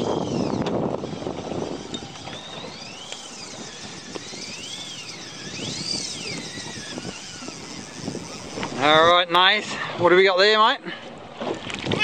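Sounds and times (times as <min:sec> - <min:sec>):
fishing reel whining: 0:00.0 - 0:10.0.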